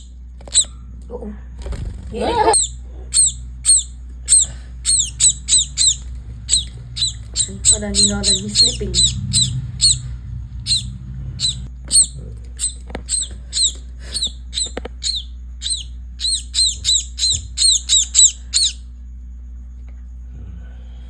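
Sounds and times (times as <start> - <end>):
bird chirping: 0.0 - 0.7, 2.1 - 18.9.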